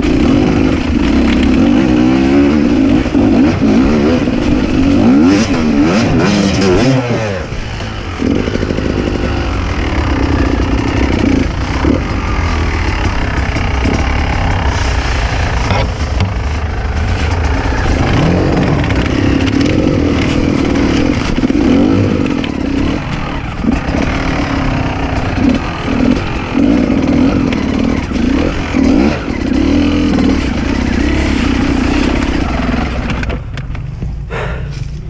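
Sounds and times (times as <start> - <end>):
dirt bike engine revving: 0.0 - 33.5.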